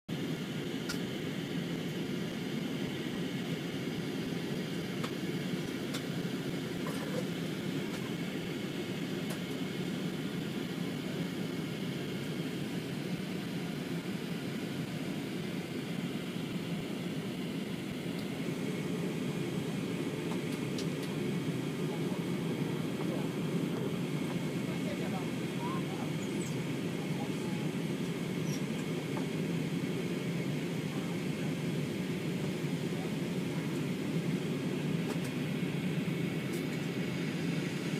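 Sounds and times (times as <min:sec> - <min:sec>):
jet engine cabin rumble: 0:00.1 - 0:37.9.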